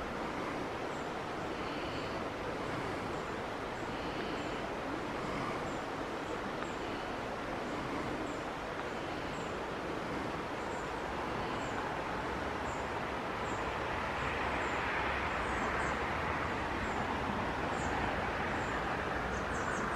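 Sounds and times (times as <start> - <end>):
outdoor background noise: 0.0 - 19.9.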